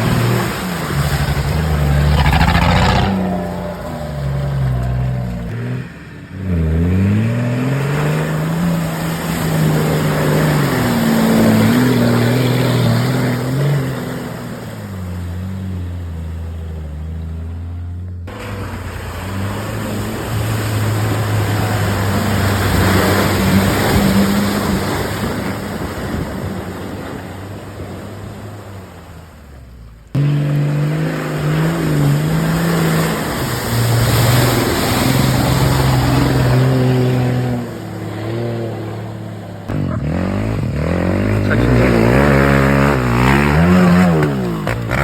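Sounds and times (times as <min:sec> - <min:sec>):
car engine revving: 0:00.0 - 0:26.0, 0:30.0 - 0:45.0.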